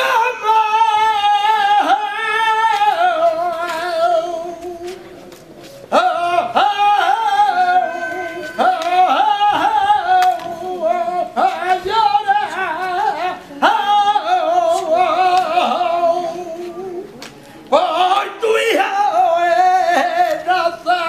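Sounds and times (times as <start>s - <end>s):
person singing unaccompanied: 0.0s - 21.0s.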